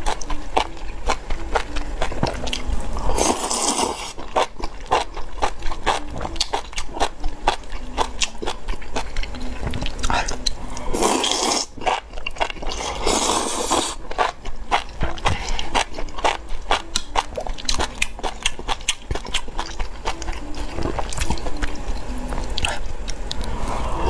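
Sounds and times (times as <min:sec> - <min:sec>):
crunchy wet chewing: 0:00.0 - 0:23.6.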